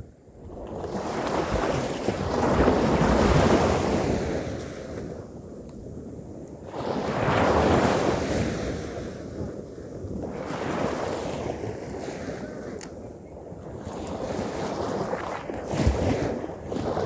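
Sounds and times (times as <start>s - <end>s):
ocean waves washing onto beach: 0.5s - 17.0s.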